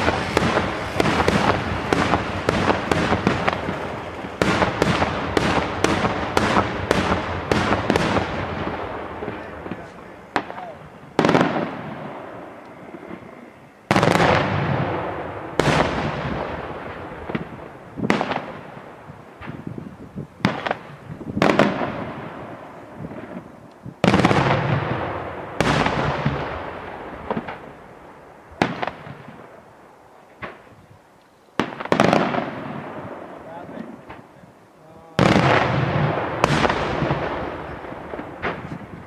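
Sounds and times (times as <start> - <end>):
fireworks bursting with loud bangs: 0.0 - 30.9, 31.5 - 34.5, 35.1 - 39.0.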